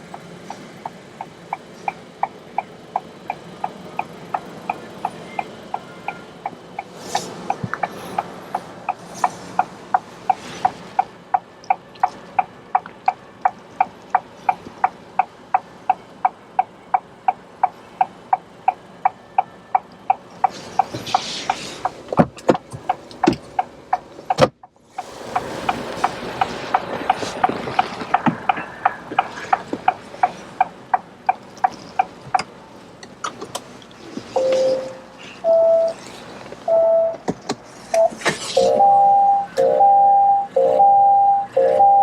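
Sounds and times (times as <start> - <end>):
car indicator ticking: 0.0 - 33.7, 34.4 - 36.0, 36.7 - 42.0.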